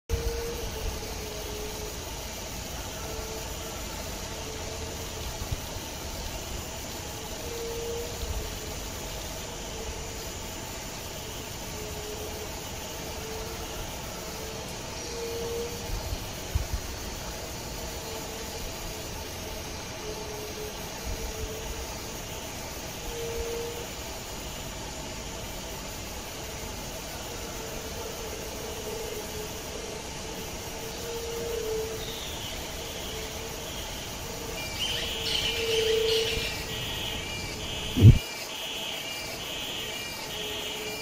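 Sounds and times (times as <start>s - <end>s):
outdoor background noise: 0.1s - 41.0s.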